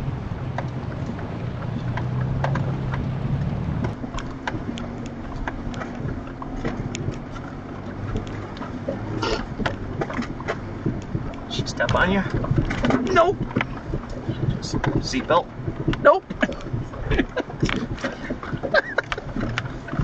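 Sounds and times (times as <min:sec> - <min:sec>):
off-road vehicle engine drone: 0:00.0 - 0:20.0
vehicle rattles and knocks: 0:00.0 - 0:20.0.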